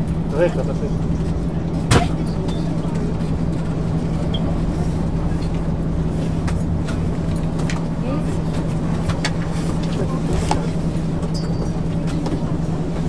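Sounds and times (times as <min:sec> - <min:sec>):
bus interior engine hum: 0:00.0 - 0:13.0.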